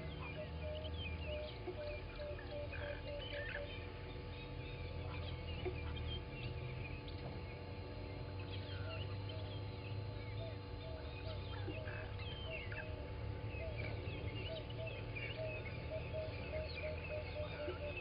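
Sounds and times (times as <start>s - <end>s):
birds chirping and calling: 0.0s - 18.0s
steady low hum: 0.0s - 18.0s.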